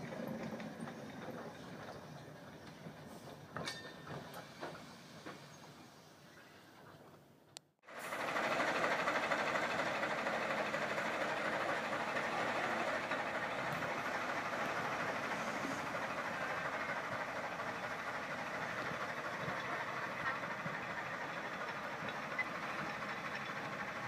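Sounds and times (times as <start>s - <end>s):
train rushing: 0.0s - 7.2s, 7.9s - 24.0s.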